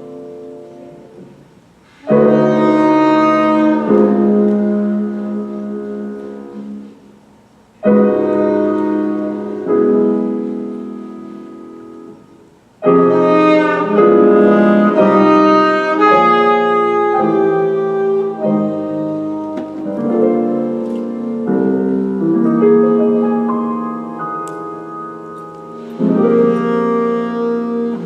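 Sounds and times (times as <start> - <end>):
alto saxophone: 0.0 - 7.2, 7.8 - 28.0
jazz piano chords: 0.0 - 28.0.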